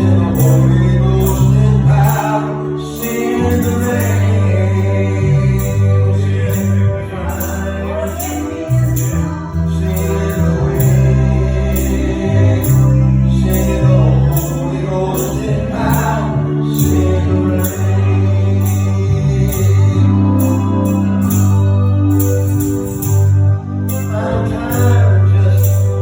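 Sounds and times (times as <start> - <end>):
deep bass notes: 0.0 - 26.0
gospel band playing: 0.0 - 26.0
person singing: 0.0 - 26.0
tambourine striking: 0.0 - 26.0.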